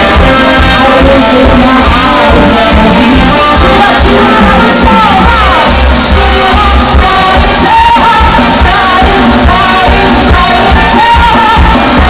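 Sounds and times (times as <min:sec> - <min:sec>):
bass beat: 0:00.0 - 0:12.0
live band playing: 0:00.0 - 0:12.0
woman singing: 0:00.0 - 0:12.0.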